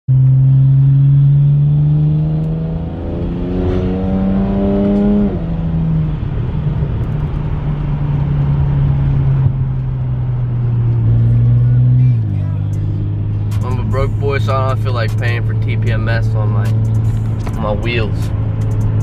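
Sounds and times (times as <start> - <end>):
car engine drone from cabin: 0.1 - 19.0.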